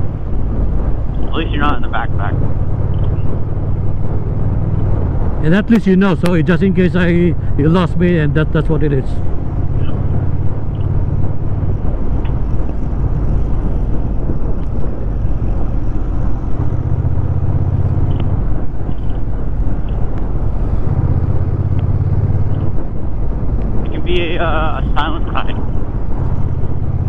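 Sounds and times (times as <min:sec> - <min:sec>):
motorcycle engine cruising: 0:00.0 - 0:27.0
wind rushing over microphone: 0:00.0 - 0:27.0.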